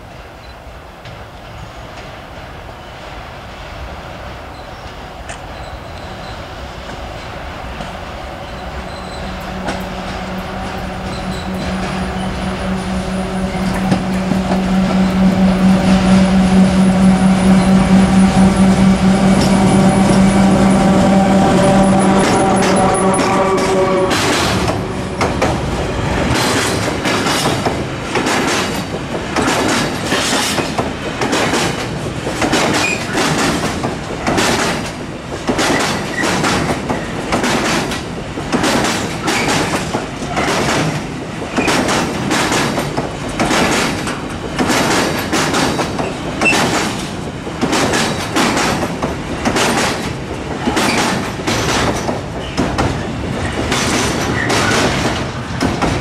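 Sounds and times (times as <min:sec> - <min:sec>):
rumble of train running gear: 0:04.3 - 0:56.0
train wheels clacking over rail joints: 0:07.8 - 0:56.0.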